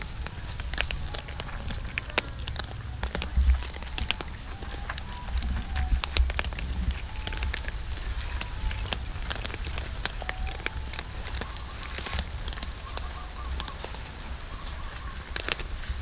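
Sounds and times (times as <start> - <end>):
cats crunching dry kibble: 0.0 - 16.0.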